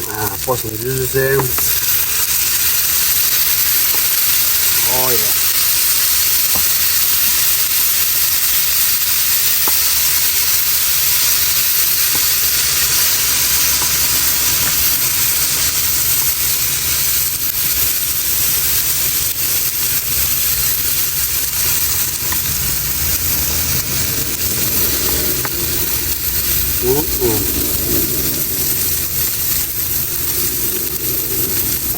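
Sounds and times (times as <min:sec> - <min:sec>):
fish sizzling in a pan: 0:00.0 - 0:31.9.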